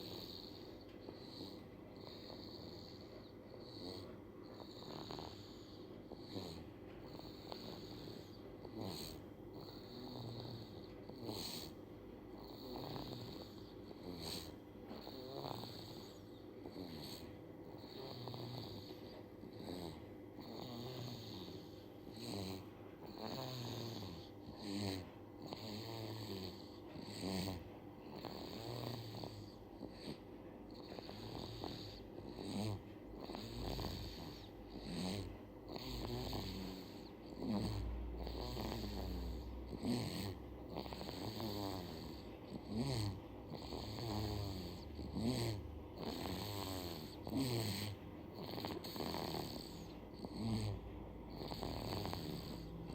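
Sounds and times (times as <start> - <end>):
baby snoring: 0.0 - 52.9.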